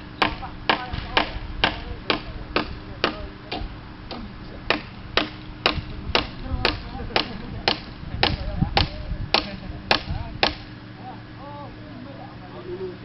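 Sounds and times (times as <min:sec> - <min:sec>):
hand tool striking: 0:00.2 - 0:10.7.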